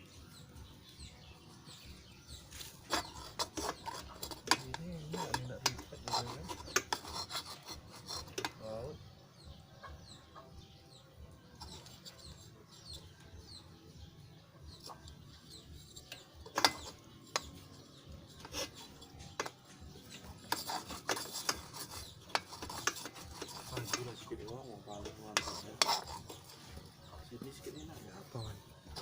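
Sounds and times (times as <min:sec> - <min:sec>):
scraping and rubbing: 0:00.9 - 0:09.0, 0:11.5 - 0:29.0.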